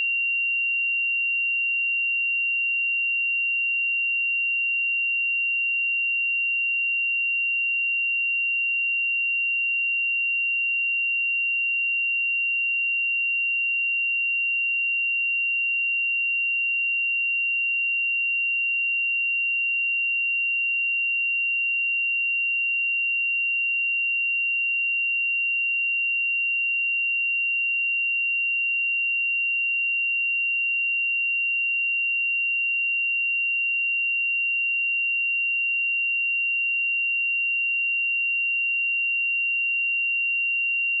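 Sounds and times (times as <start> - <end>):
pure sine-wave test tone: 0.0 - 41.0.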